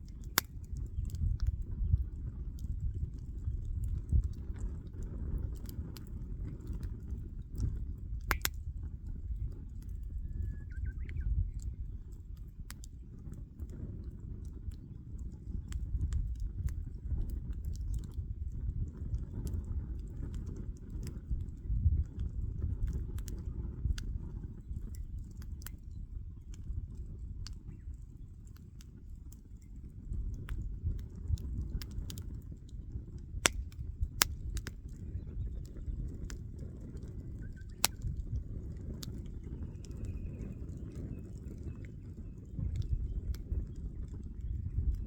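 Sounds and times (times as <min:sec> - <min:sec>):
burning wood popping: 0:00.0 - 0:45.0
fire low rumble: 0:00.0 - 0:45.0.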